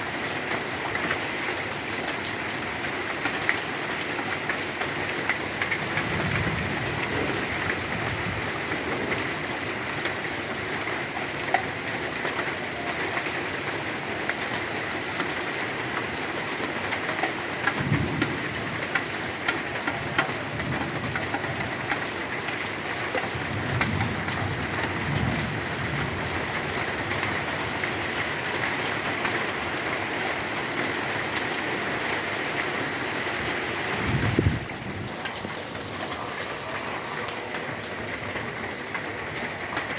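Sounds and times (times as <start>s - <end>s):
heavy rain: 0.0s - 39.9s
raindrops pattering on surfaces: 0.0s - 39.9s.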